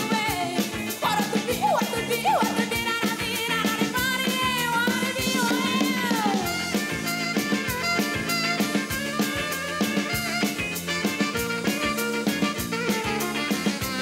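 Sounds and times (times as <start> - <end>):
drum-kit beat: 0.0 - 14.0.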